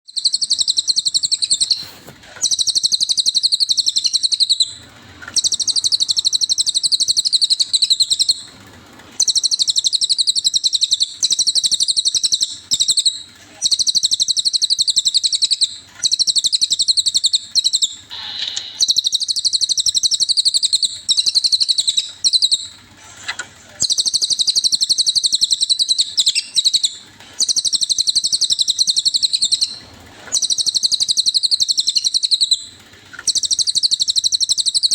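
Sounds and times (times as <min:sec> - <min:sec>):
bird chirping trills: 0:00.0 - 0:22.8, 0:23.8 - 0:34.9.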